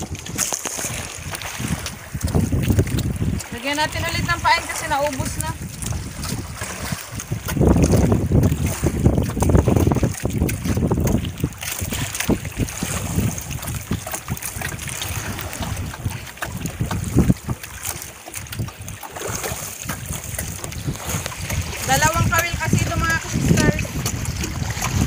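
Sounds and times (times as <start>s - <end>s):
water lapping at boat: 0.0s - 25.0s
wind buffeting microphone: 0.0s - 25.0s.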